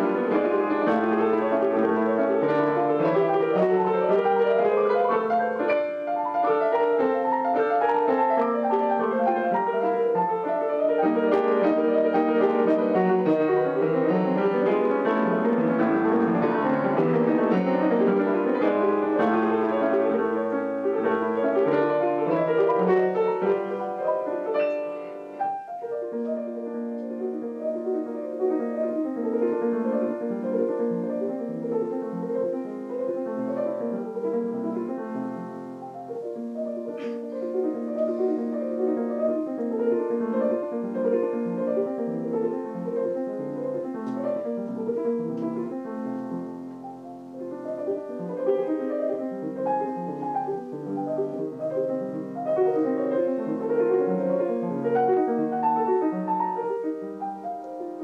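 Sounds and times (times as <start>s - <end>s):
piano playing: 0.0s - 58.0s.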